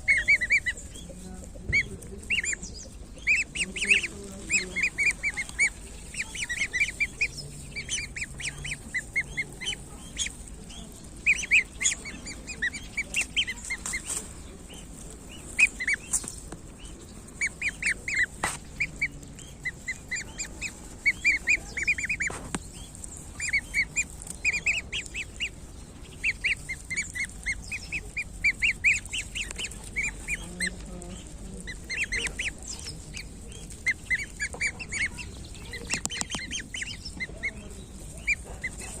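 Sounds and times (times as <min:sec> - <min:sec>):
goslings peeping: 0:00.0 - 0:39.0.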